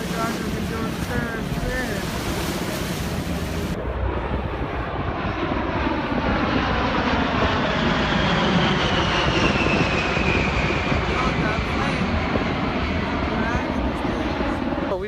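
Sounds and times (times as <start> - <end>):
aircraft engine whine: 0.0 - 15.0
low engine rumble: 0.0 - 15.0.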